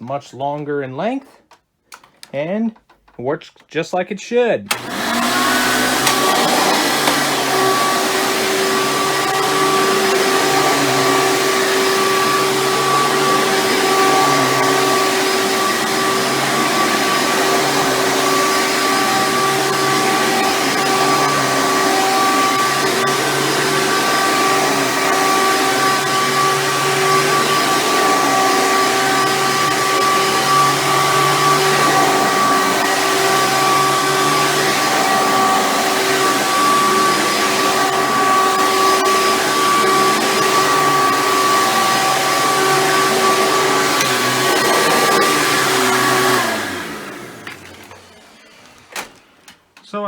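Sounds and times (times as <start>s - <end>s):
upright vacuum whining: 4.7s - 50.0s.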